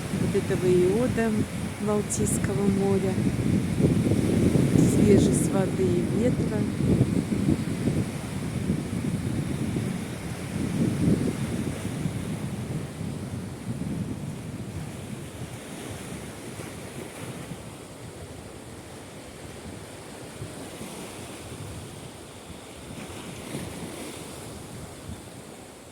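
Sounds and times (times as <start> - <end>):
wind rumbling on microphone: 0.0 - 25.6
surf washing onto beach: 0.0 - 25.8.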